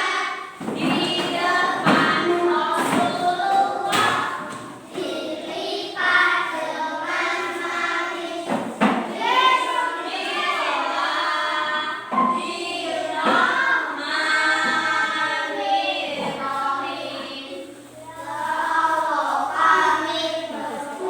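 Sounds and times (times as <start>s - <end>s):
children singing together: 0.0s - 21.0s.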